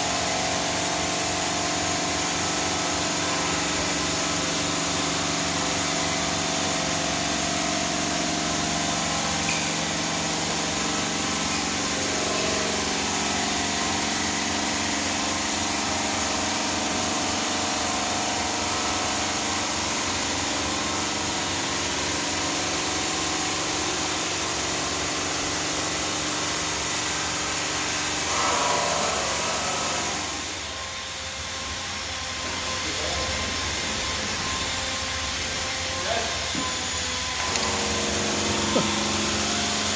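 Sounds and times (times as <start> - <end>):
stone cutting saw machine noise: 0.0 - 39.9.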